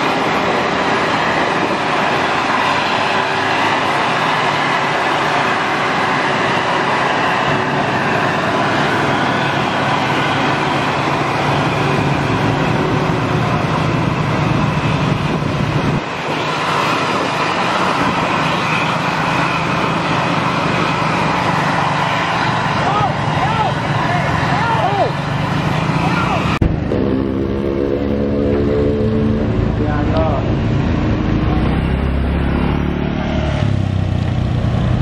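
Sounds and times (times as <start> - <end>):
diesel bus engine labouring uphill: 0.0 - 35.0.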